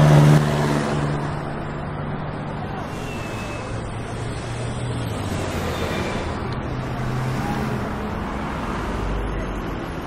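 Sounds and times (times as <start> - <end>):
passing cars: 0.0 - 10.0
road noise: 0.0 - 10.0.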